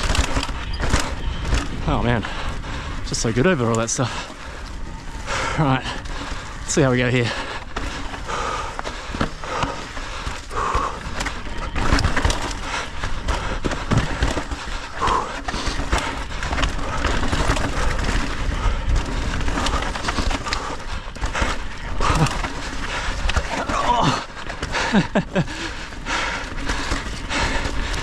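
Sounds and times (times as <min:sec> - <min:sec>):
bike knocking and rattling: 0:00.0 - 0:28.0
bike tyres crunching over rock: 0:00.0 - 0:28.0.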